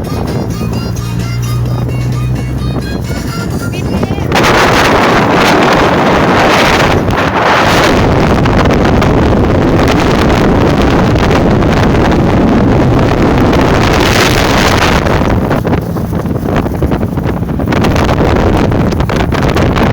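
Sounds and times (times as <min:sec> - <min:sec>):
storm wind buffeting microphone: 0:00.0 - 0:19.9.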